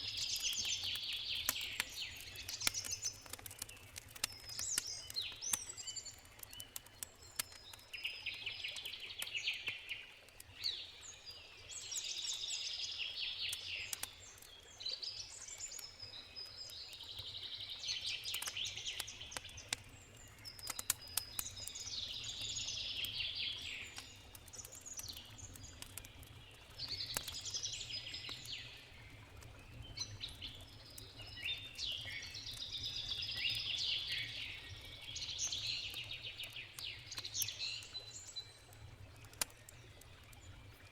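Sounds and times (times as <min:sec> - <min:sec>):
songbird singing: 0:00.0 - 0:40.3
campfire crackling: 0:00.0 - 0:40.9.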